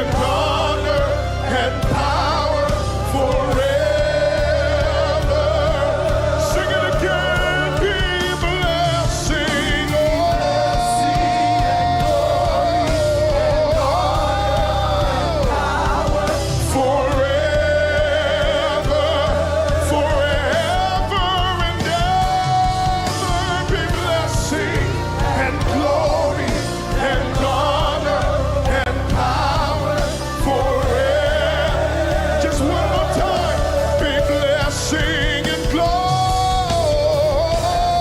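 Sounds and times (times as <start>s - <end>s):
band with steady bass: 0.0s - 38.0s.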